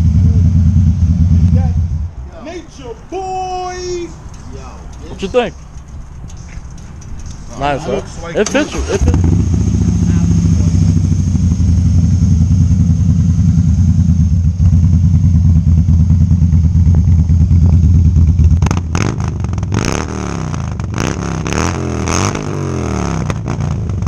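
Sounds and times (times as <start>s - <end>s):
motorcycle engine revving: 0.0s - 2.1s, 6.7s - 24.0s.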